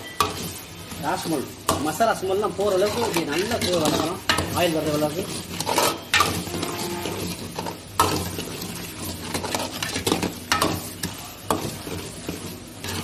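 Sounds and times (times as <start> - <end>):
masala sizzling in oil: 0.0 - 13.0
metal ladle scraping a pan: 0.0 - 13.0.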